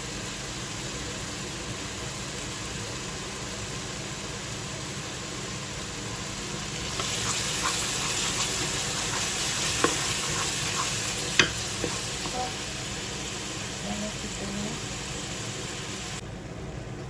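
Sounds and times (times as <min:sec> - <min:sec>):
spice paste sizzling in pan: 0:00.0 - 0:16.2.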